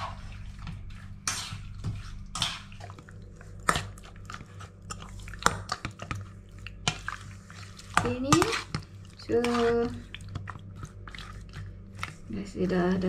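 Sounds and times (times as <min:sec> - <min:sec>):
wet squelches of meat: 0:00.0 - 0:12.3.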